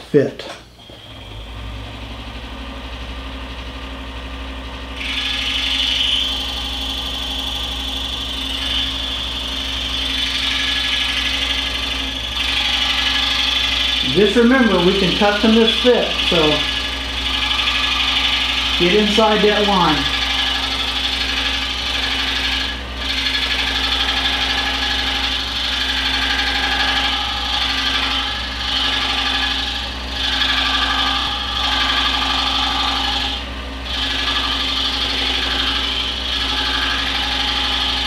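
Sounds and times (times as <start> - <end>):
scroll saw cutting wood: 5.0 - 38.0.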